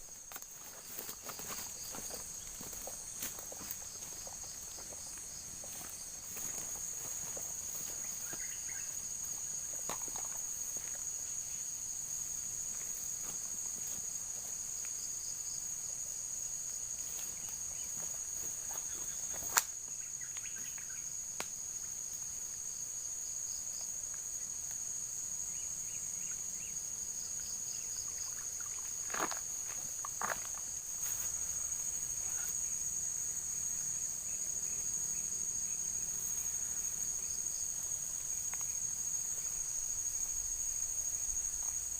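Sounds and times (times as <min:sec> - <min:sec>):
insect chorus chirring: 0:00.0 - 0:41.9.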